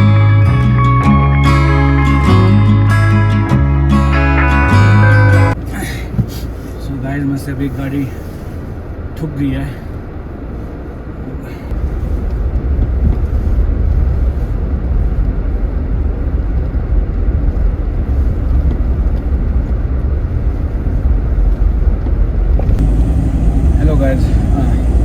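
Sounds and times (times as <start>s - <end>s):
vehicle rumble: 0.0s - 25.0s.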